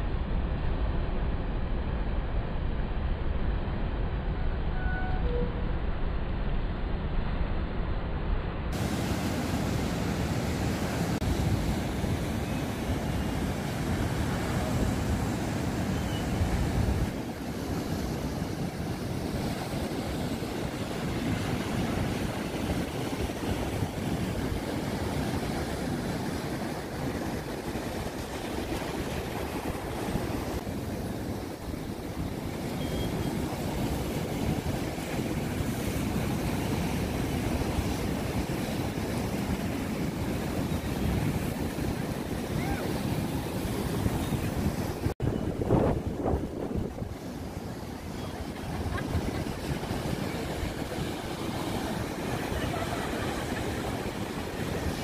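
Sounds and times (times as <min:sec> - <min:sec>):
waves breaking and washing: 0:00.0 - 0:55.0
wind buffeting microphone: 0:08.7 - 0:55.0.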